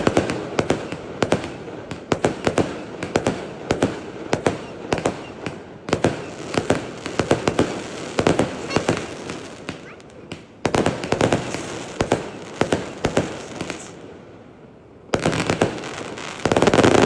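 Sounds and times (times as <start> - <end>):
fireworks bangs: 0.0 - 14.2, 15.1 - 17.0
fireworks crackling: 0.0 - 14.4, 15.1 - 17.0.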